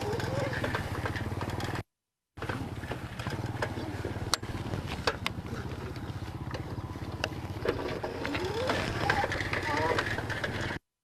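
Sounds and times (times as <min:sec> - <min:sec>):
small engine running: 0:00.0 - 0:10.9.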